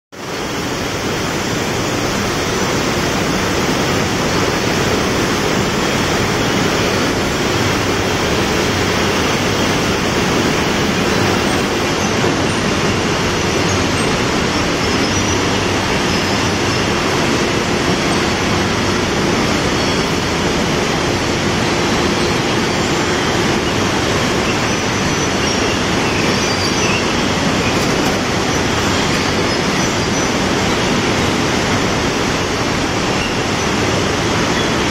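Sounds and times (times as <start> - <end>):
bottle production line machinery: 0.2 - 34.9.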